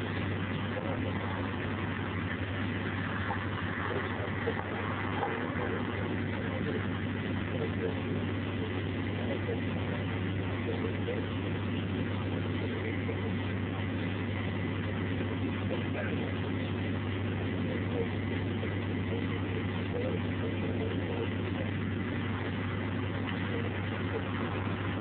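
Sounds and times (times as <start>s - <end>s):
diesel locomotive engine running: 0.0s - 25.0s.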